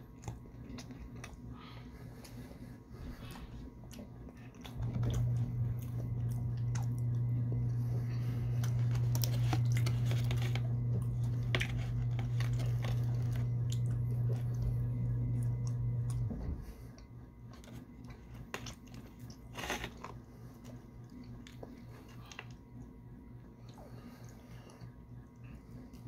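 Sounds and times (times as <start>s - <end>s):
loud steady low hum: 0.0s - 26.0s
person chewing pie: 0.0s - 26.0s.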